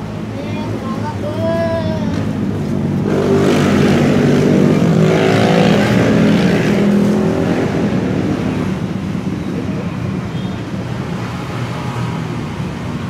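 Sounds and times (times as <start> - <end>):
motor vehicle passing: 0.7 - 13.0.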